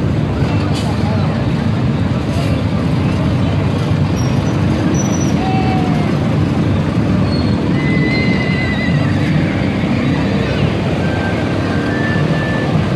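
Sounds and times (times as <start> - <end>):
truck engine rumble: 0.0 - 12.9.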